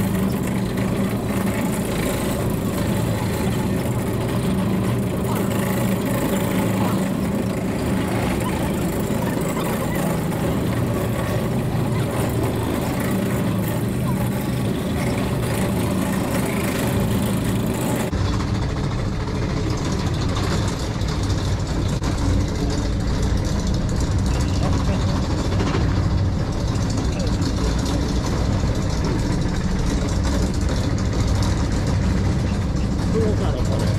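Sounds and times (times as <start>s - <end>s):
monorail drive unit running: 0.0s - 33.9s.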